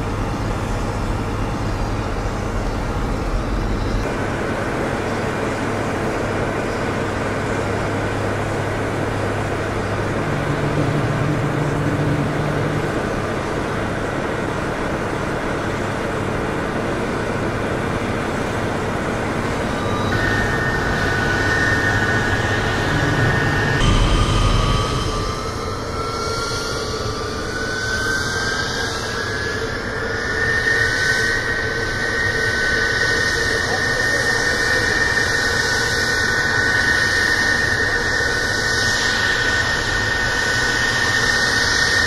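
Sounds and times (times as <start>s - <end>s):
low hum: 0.0s - 34.3s
high-pitched turbine whine: 0.0s - 42.0s
jet turbine rushing drone: 0.0s - 42.0s.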